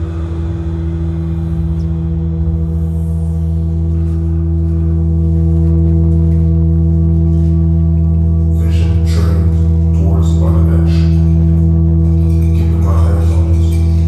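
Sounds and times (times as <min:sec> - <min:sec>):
sustained musical drone: 0:00.0 - 0:14.0.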